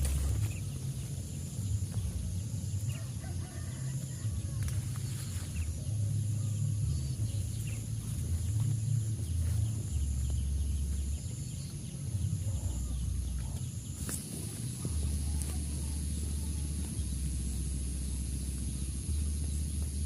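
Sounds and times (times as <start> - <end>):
high background hum: 0.0 - 20.0
low rumble: 0.0 - 20.0.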